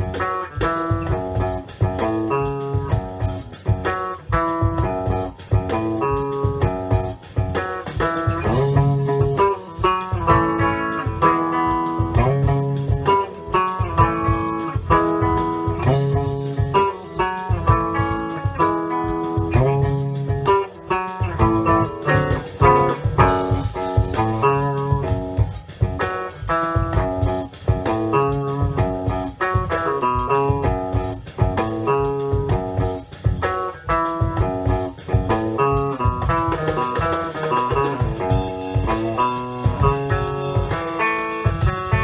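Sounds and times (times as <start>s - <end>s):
electric guitar lead lines: 0.0s - 42.0s
rock drum track: 0.0s - 42.0s.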